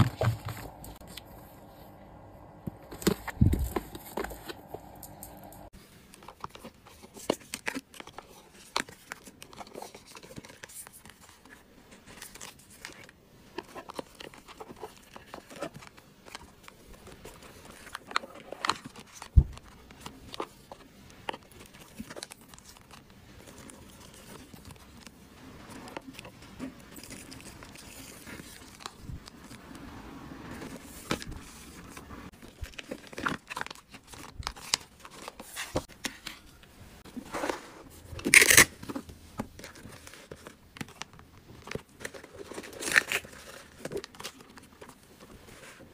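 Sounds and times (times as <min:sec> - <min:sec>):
paper rustling: 0:00.0 - 0:01.6, 0:05.7 - 0:29.8, 0:30.5 - 0:45.9
plastic crinkling: 0:06.2 - 0:29.6, 0:30.7 - 0:45.9.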